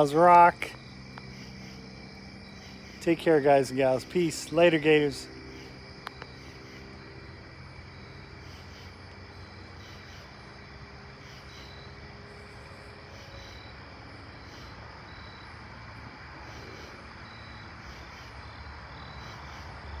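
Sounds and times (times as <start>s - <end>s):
insects chirping: 0.0s - 20.0s
steady low hum: 0.0s - 20.0s.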